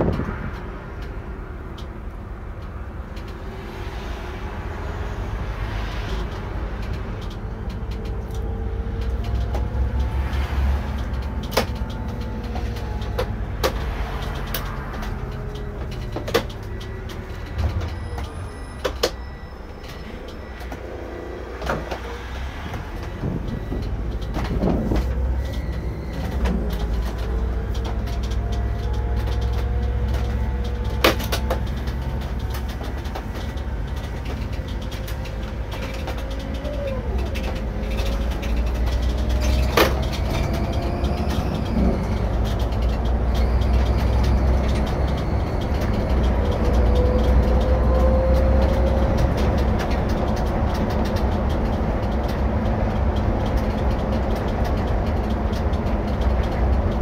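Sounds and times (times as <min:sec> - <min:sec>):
coach engine and road rumble: 0:00.0 - 0:57.0.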